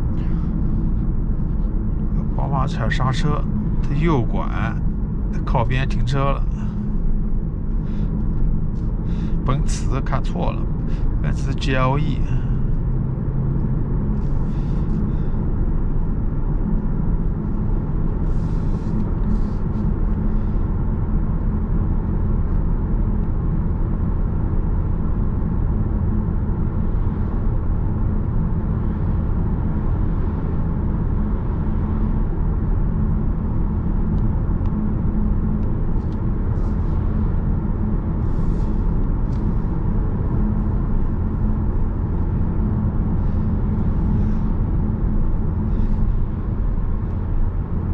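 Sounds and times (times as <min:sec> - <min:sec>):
car engine hum: 0:00.0 - 0:47.9.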